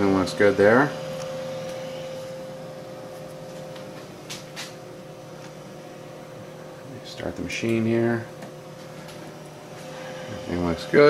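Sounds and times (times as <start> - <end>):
electrical hum with steady tone: 0.0 - 11.0.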